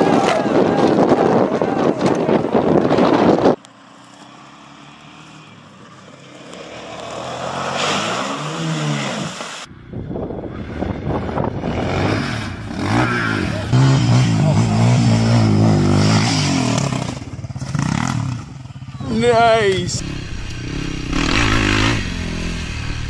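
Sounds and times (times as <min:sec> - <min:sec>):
off-road vehicle engines revving: 0:00.0 - 0:09.7, 0:10.4 - 0:23.0.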